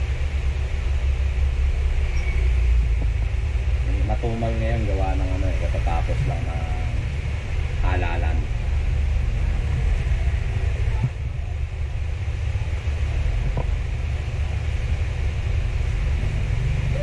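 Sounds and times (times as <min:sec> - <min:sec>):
faint hiss: 0:00.0 - 0:17.0
low background rumble: 0:00.0 - 0:17.0.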